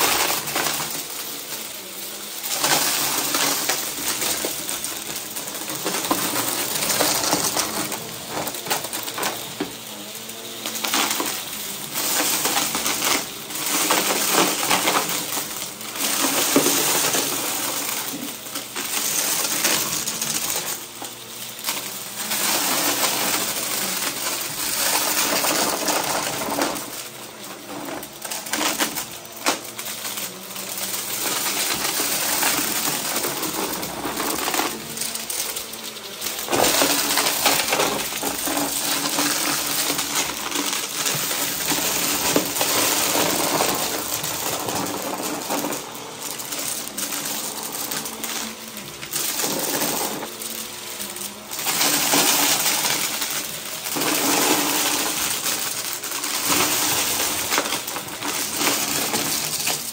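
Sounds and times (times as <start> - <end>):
debris rattling up vacuum nozzle: 0.0 - 59.9
vacuum cleaner running: 0.0 - 59.9.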